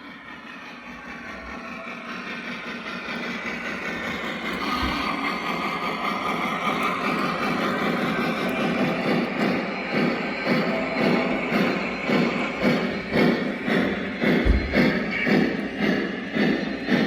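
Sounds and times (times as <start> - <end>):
model train running: 0.0 - 17.0.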